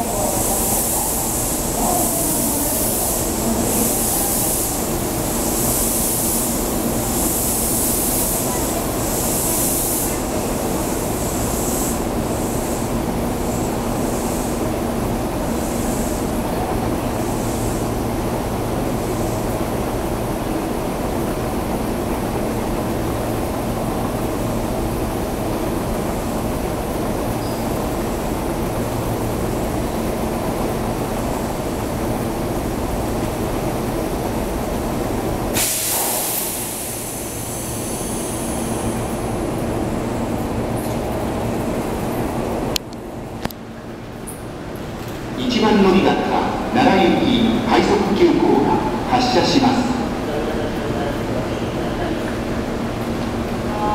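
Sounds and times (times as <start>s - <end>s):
electric train rumble and hum: 0.0s - 53.9s.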